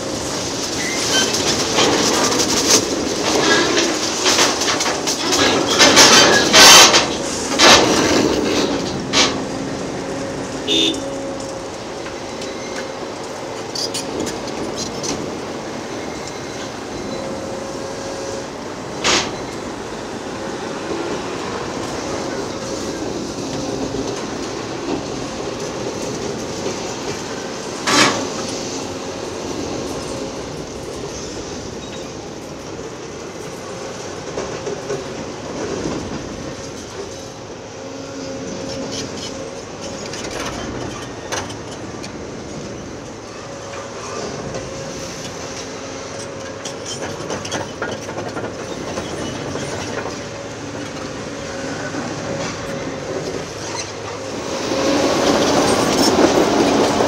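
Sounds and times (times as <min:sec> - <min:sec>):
excavator engine and hydraulic whine: 0:00.0 - 0:57.0.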